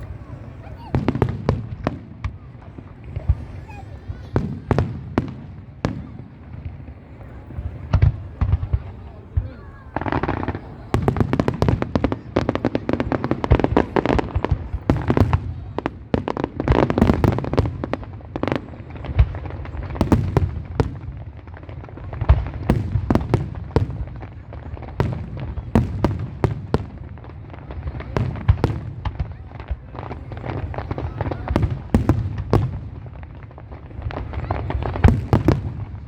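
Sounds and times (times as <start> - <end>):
fireworks bangs and crackles: 0.0 - 36.0
loud single firework reports: 0.0 - 36.0.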